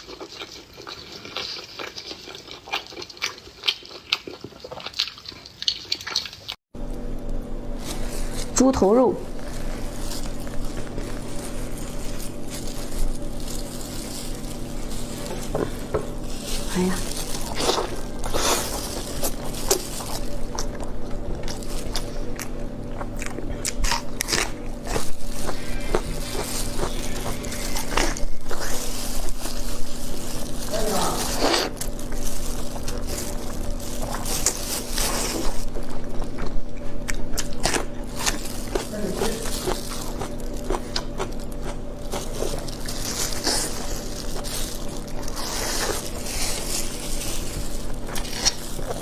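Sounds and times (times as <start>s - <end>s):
person chewing food: 0.0s - 8.5s, 9.3s - 49.0s.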